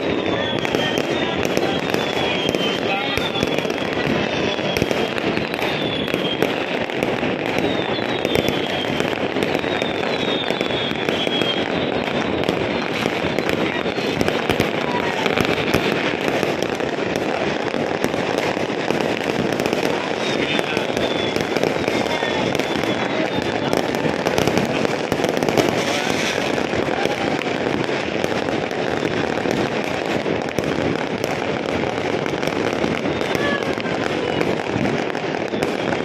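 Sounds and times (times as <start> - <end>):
falling firework whistles: 0.0 - 36.0
fireworks and firecrackers crackling: 0.0 - 36.0.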